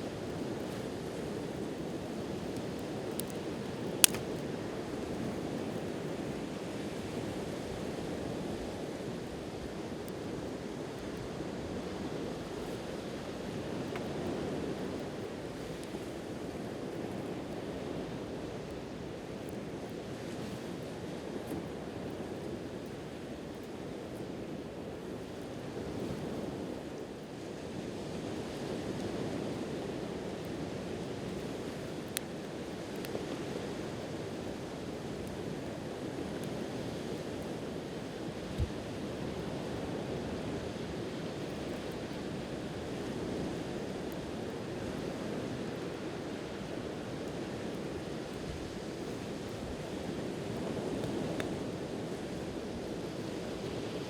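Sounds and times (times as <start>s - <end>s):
campfire crackles: 0.0s - 54.0s.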